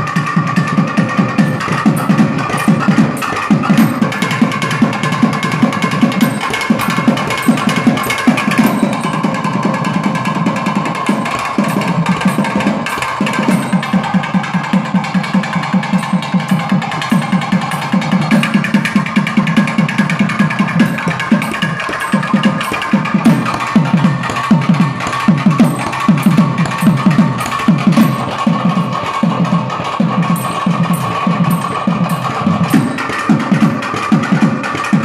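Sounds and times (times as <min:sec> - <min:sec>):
barrel drums fast rhythm: 0:00.0 - 0:35.0
steady high tone: 0:01.2 - 0:18.8, 0:20.6 - 0:33.8.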